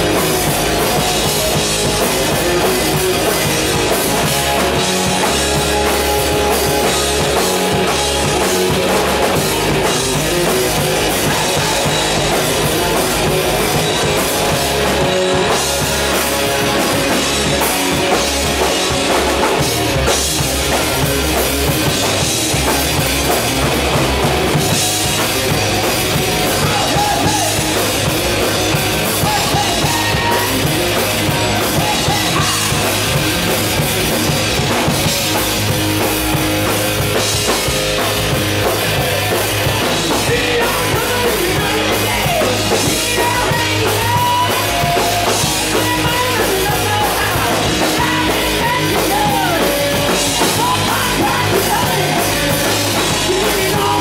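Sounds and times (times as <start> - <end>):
live hard rock band: 0.0 - 54.0.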